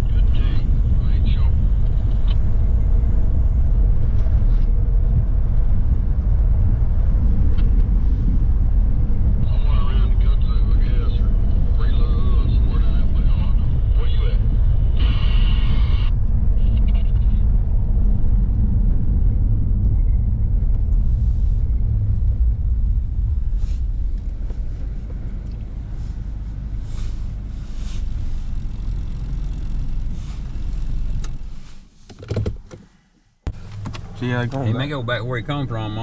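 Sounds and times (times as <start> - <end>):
tyres and engine rumble on gravel: 0.0 - 32.1, 33.5 - 36.0.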